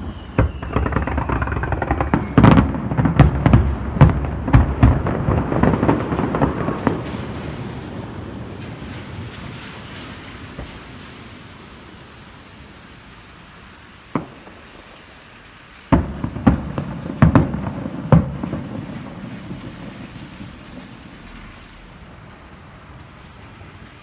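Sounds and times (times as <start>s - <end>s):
fireworks bangs: 0.0s - 11.4s, 14.0s - 23.9s
background hiss: 0.0s - 24.0s.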